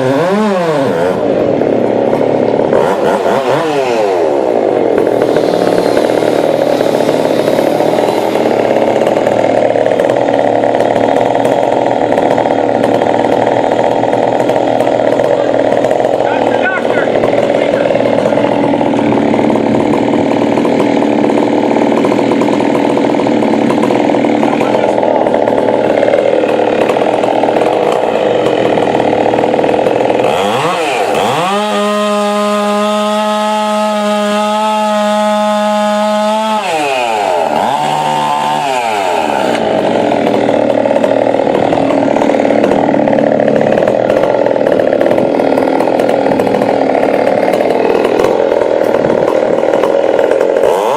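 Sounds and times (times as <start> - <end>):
chainsaw cutting and revving: 0.0 - 50.9.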